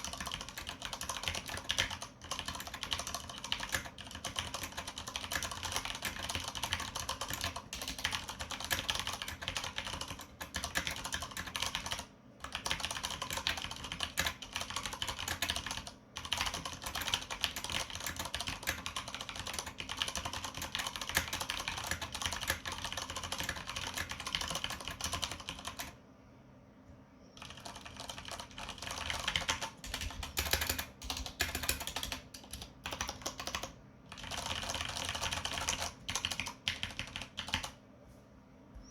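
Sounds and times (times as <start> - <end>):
typing on mechanical keyboard: 0.0 - 26.0, 27.4 - 37.8.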